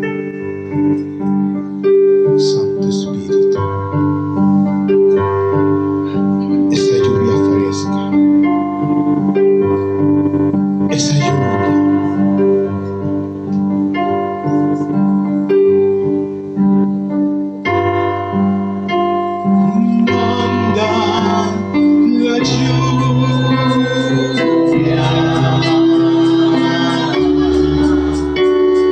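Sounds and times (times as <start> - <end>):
keyboard playing worship music: 0.0 - 28.9.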